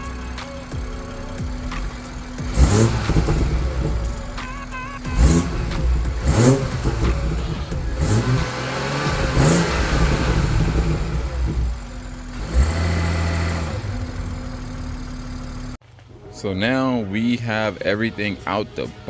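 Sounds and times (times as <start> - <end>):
car engine revving: 0.0 - 15.8.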